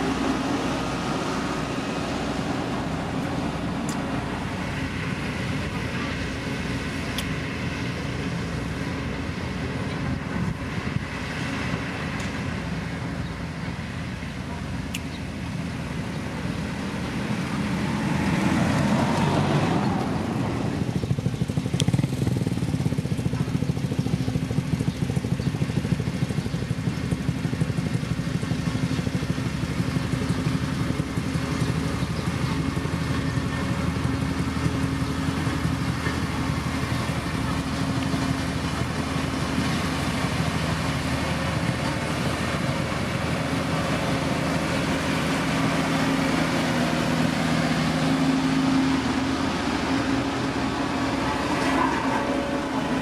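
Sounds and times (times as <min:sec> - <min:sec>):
diesel engine of heavy machinery: 0:00.0 - 0:53.0.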